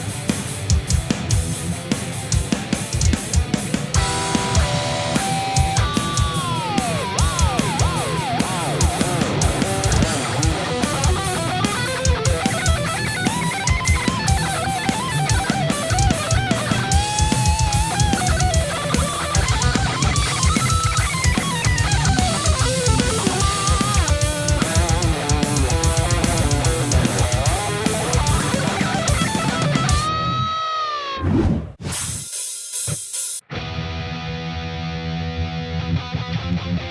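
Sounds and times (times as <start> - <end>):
drum kit: 0.0 - 30.1, 31.8 - 33.4
electric guitar playing heavy metal: 0.0 - 31.2, 33.5 - 36.9.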